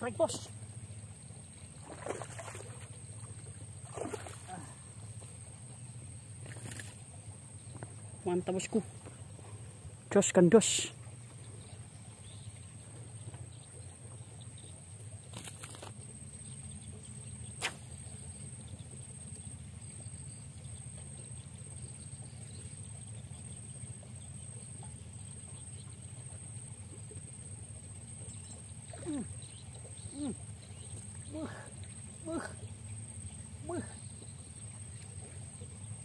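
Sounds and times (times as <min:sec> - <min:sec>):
low steady rumble: 0:00.0 - 0:15.3, 0:16.0 - 0:36.0.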